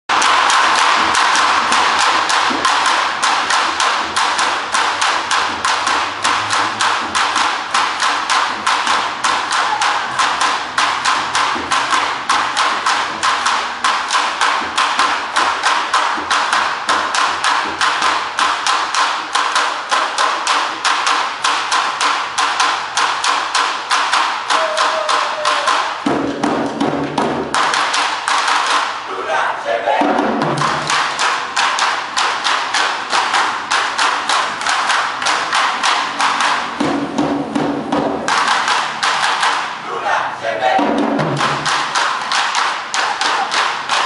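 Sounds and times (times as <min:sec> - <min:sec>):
street drummers playing: 0:00.1 - 0:44.0.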